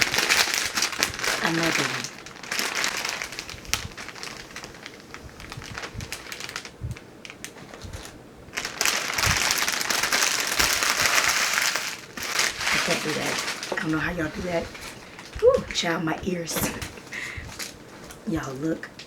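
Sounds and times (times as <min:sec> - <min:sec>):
packaging crinkling by hand: 0:00.0 - 0:19.0.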